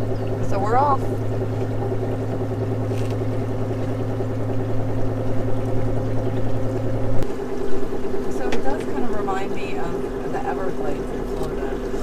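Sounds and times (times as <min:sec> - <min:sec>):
electric motor humming: 0:00.0 - 0:12.0
water washing along hull: 0:00.0 - 0:12.0.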